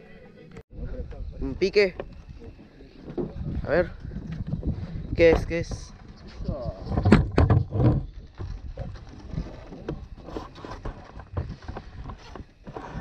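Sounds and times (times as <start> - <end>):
wind rumbling on microphone: 0.7 - 13.0.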